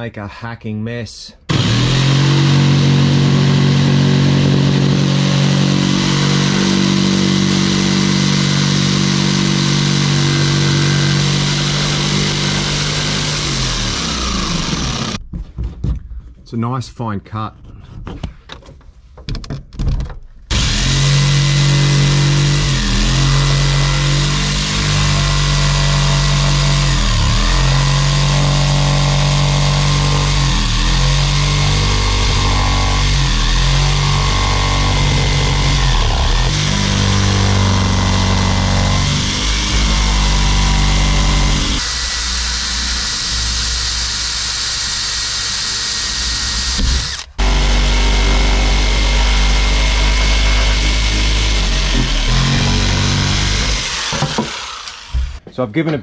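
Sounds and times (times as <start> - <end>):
jigsaw sawing through panel: 1.5 - 15.2, 20.5 - 55.4.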